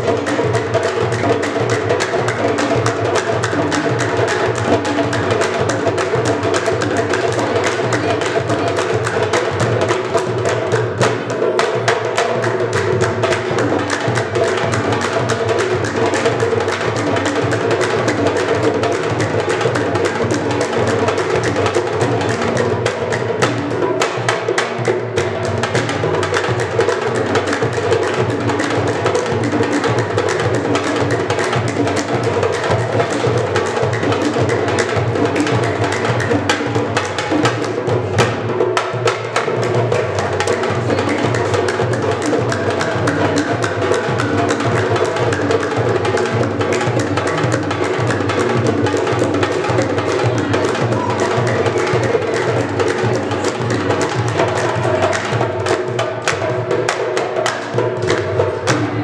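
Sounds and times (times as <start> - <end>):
hand drum: 0.0 - 59.0.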